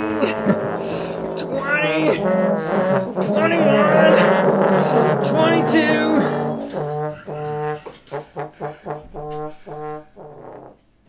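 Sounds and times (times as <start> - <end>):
trombone ensemble playing: 0.0 - 11.0.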